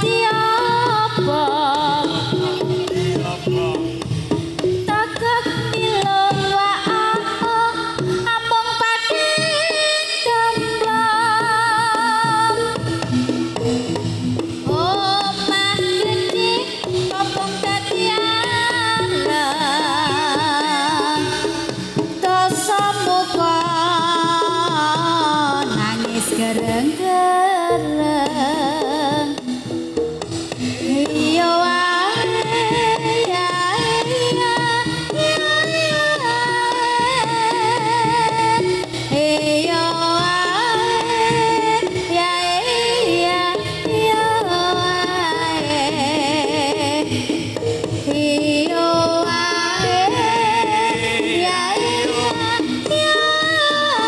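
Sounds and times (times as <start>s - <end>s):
hand drum strokes: 0.0s - 54.0s
sliding lead melody: 0.0s - 54.0s.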